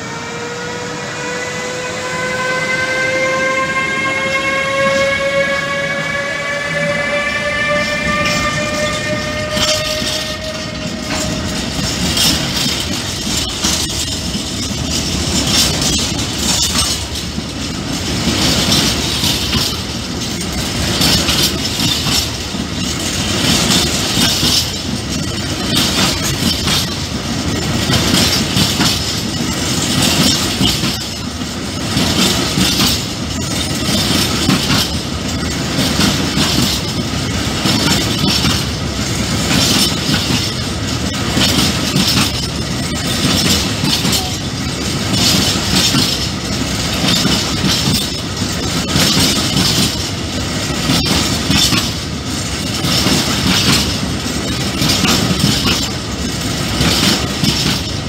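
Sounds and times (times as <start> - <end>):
electric locomotive motors whining: 0.0 - 58.0
train wheels clacking over rail joints: 1.2 - 58.0.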